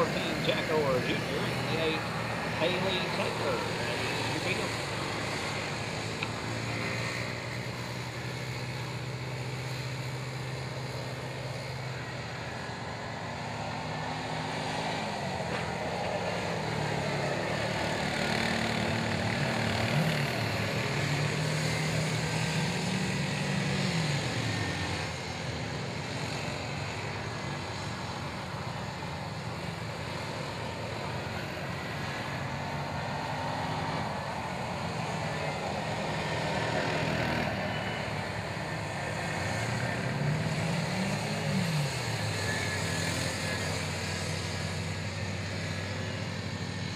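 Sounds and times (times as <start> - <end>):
small atv engines running: 0.0 - 46.9.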